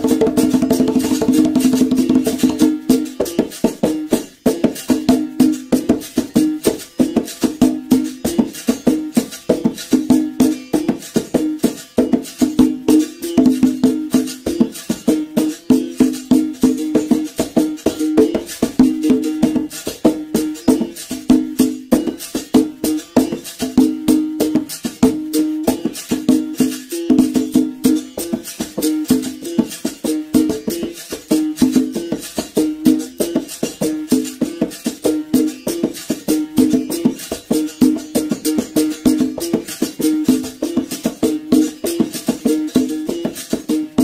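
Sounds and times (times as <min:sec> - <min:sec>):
basket rattle shaking: 0:00.0 - 0:25.0, 0:25.6 - 0:44.0
musical bow struck with stick: 0:00.0 - 0:44.0.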